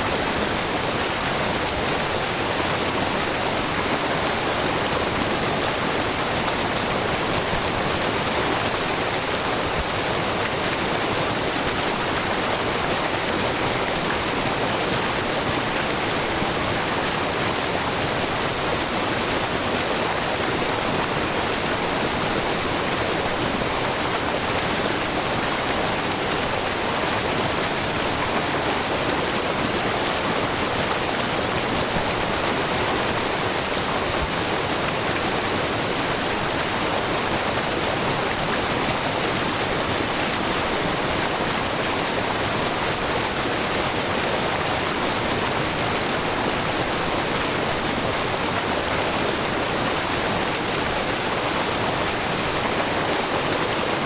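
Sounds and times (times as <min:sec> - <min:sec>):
waterfall splashing into pool: 0:00.0 - 0:54.0.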